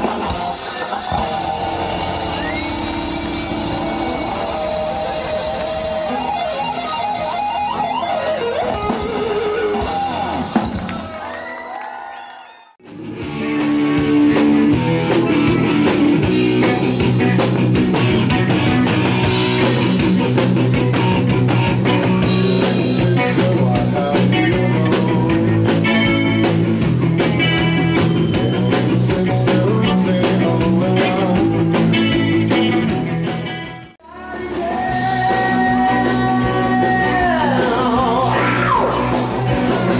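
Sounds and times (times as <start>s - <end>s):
live rock band with singing: 0.0s - 11.5s, 12.9s - 39.9s.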